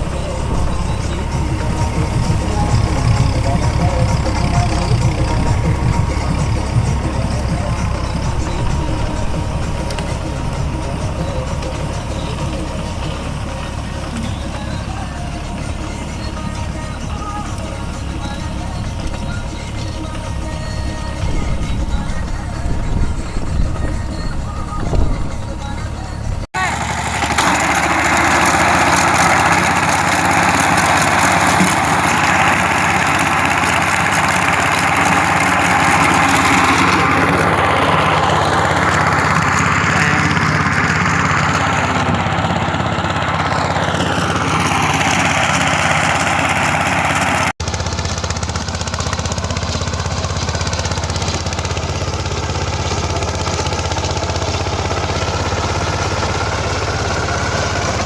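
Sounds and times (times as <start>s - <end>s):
mini tractor engine humming: 0.0s - 58.0s.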